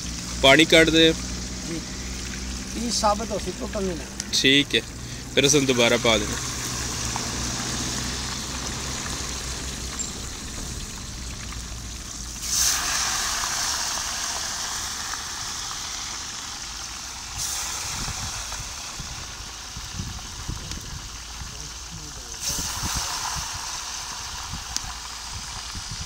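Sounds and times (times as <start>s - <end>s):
fish frying in hot oil: 0.0s - 26.0s
low steady rumble: 0.0s - 26.0s.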